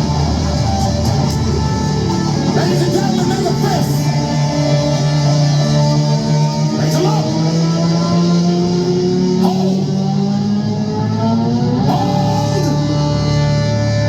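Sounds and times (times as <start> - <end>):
electric guitars with bent notes: 0.0 - 14.0
hard rock band playing live: 0.0 - 14.0.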